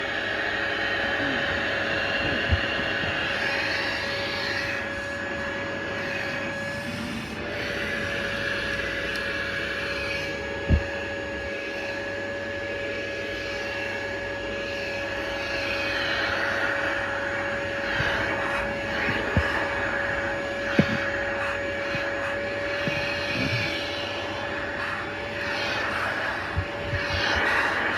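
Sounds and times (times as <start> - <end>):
machine whirring with a whine: 0.0 - 27.9.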